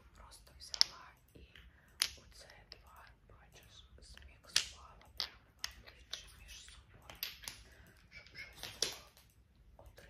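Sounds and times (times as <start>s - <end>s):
soft whispering: 0.0s - 10.0s
cosmetics clicking and tapping: 0.2s - 10.0s.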